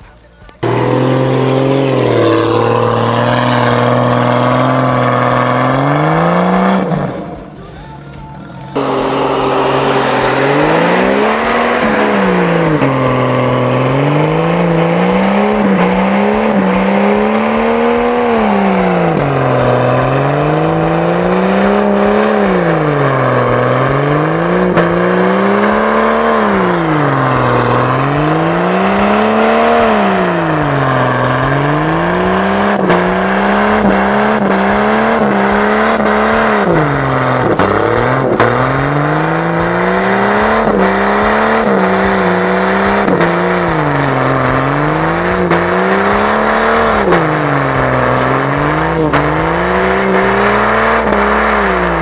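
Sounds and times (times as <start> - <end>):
engine revving: 0.0 - 52.0.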